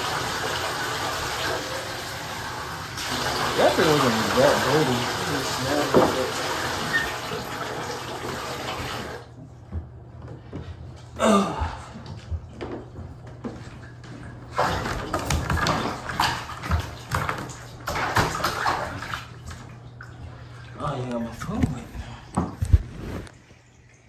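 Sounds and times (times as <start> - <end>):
water running from bathtub tap: 0.0 - 9.4, 11.9 - 24.0
water splashing in bathtub: 0.0 - 9.8, 10.4 - 24.0.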